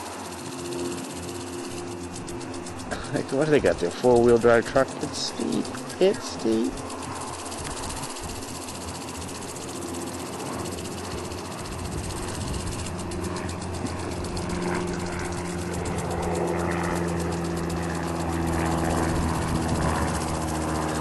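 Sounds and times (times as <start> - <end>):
aircraft engine drone: 0.0 - 21.0
rapid regular beat: 0.0 - 21.0.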